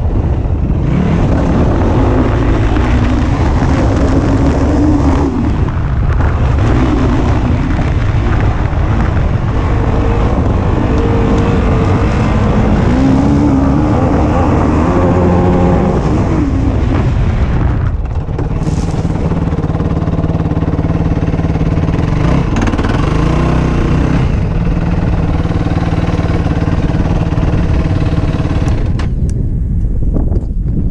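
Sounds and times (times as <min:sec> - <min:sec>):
quad engine revving: 0:00.0 - 0:29.2.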